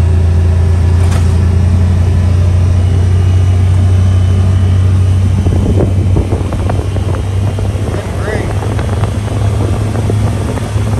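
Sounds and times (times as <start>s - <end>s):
vehicle engine low drone: 0.0s - 10.9s.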